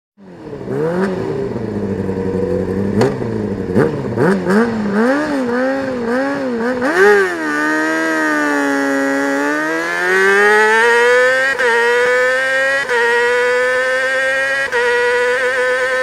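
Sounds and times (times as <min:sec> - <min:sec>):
motorcycle engine revving: 0:00.2 - 0:16.0.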